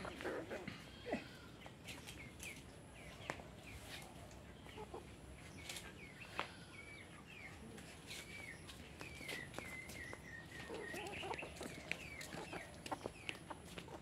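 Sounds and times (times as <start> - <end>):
hens chirping calls: 0.0 - 14.0.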